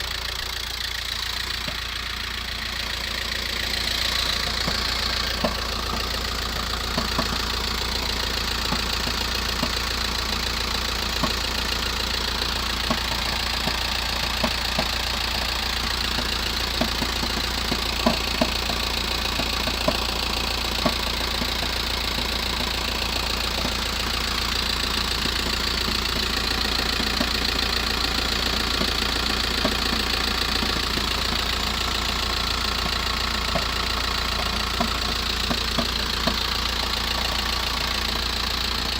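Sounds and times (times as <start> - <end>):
diesel engine idling: 0.0 - 38.9
sharp engine knocks: 2.7 - 38.9.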